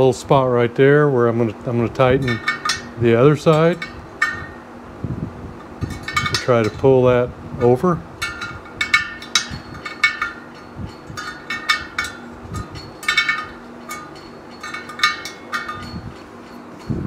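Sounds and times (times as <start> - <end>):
wrench clinking on metal spokes: 1.9 - 4.7, 5.6 - 17.0.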